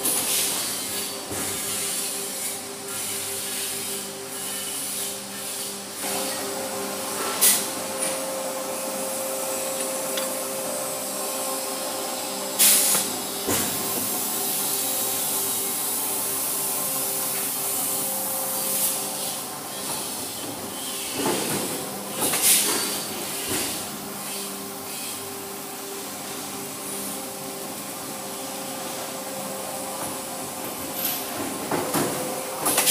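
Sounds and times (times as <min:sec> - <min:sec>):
factory machinery hum: 0:00.0 - 0:32.9.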